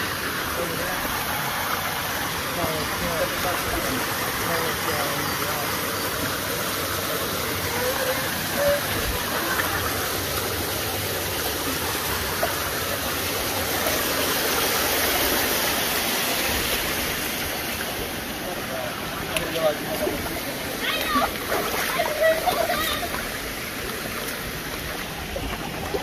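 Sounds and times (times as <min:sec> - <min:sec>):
creek water rushing over rocks: 0:00.0 - 0:26.0.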